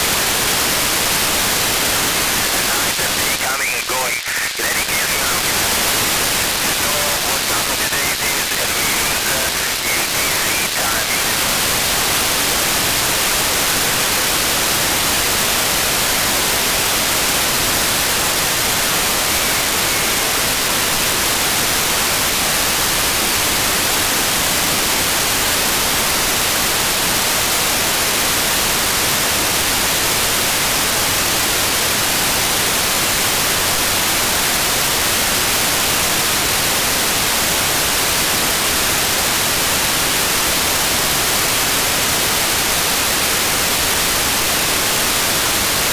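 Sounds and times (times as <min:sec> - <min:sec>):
radio static hiss: 0:00.0 - 0:45.9.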